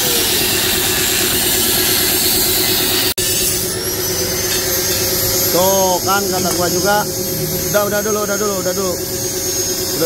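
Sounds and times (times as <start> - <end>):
angle grinder cutting metal: 0.0 - 10.0.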